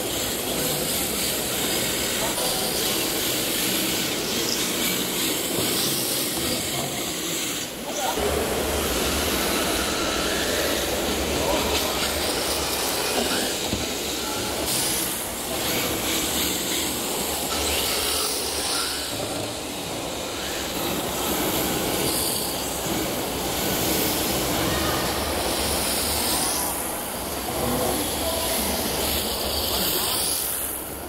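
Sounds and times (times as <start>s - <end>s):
crowd hubbub: 0.0s - 31.0s
rc cars hissing and whining: 0.0s - 31.0s.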